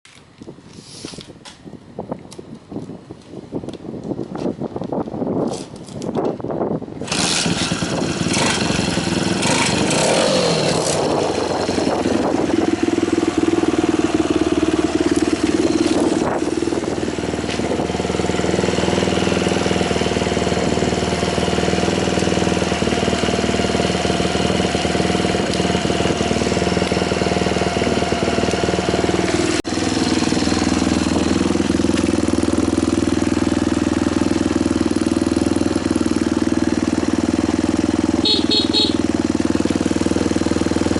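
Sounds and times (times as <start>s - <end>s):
motorcycle engine revving and idling: 6.6s - 40.9s.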